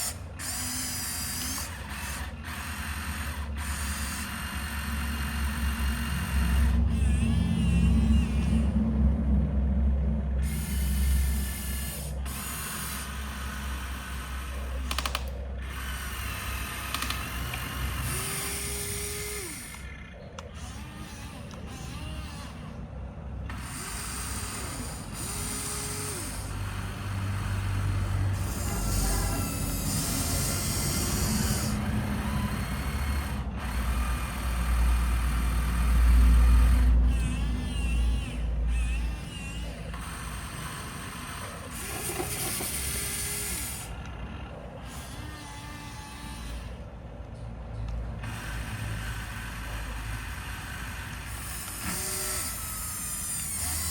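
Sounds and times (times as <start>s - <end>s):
small electric motors whining: 0.0s - 9.3s, 10.2s - 53.9s.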